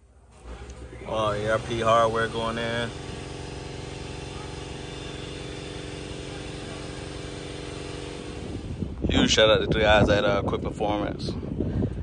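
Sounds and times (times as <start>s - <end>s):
motor running steady drone: 0.0s - 10.1s.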